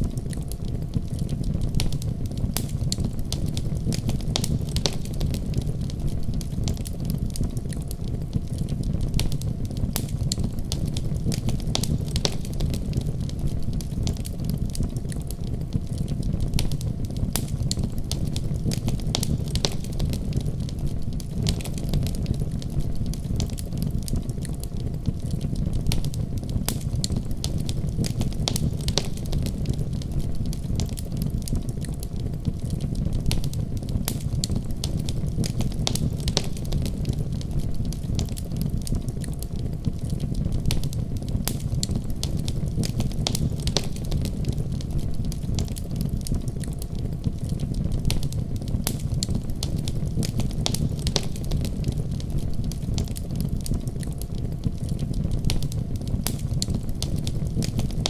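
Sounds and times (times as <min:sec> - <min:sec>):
fire crackling and popping: 0:00.0 - 0:58.0
wood fire roaring: 0:00.0 - 0:58.0.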